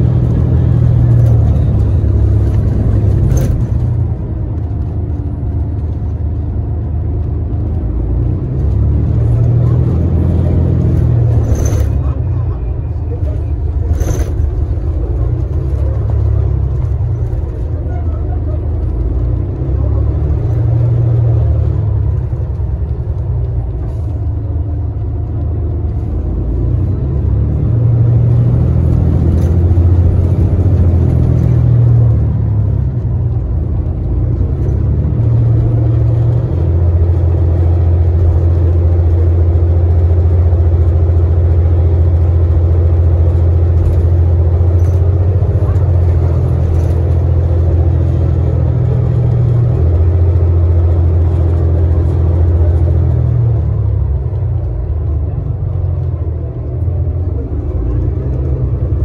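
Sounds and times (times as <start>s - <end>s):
bus drivetrain drone: 0.0s - 59.0s
road noise: 0.0s - 59.0s.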